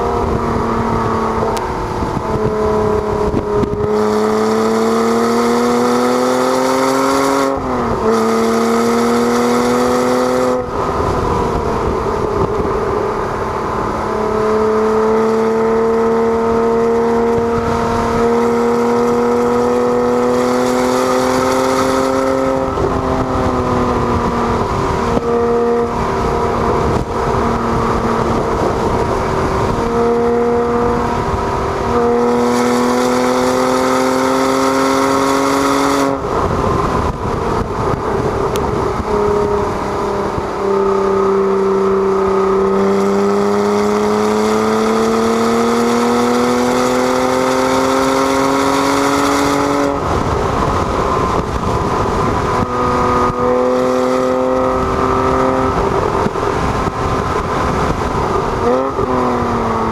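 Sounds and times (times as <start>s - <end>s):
car engine revving through gears: 0.0s - 59.9s
wind and road noise: 0.0s - 59.9s.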